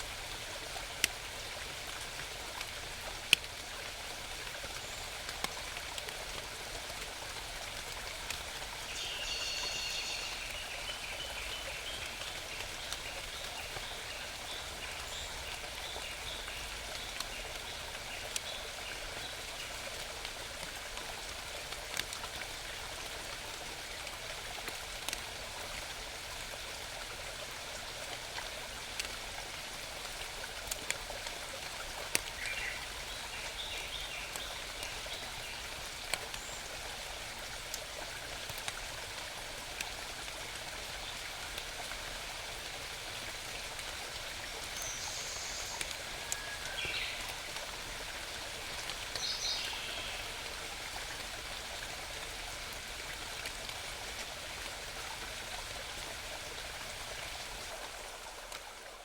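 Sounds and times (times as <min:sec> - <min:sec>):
mountain stream babbling: 0:00.0 - 0:59.0.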